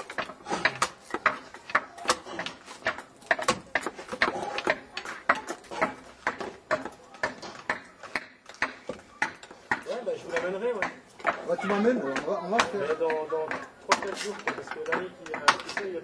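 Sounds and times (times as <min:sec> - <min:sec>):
hand tools knocking wood: 0:00.0 - 0:16.0
voices talking: 0:00.2 - 0:16.0.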